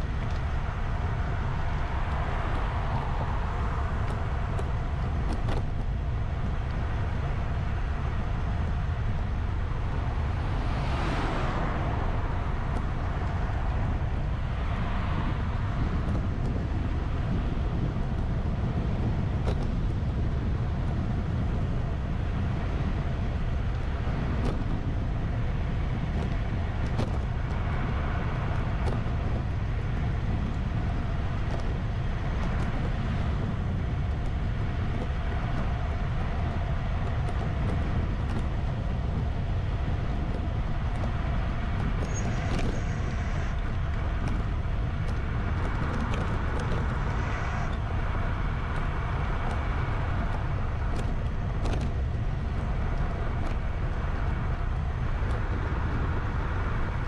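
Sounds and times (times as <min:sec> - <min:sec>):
moving vehicle rumble: 0:00.0 - 0:57.0.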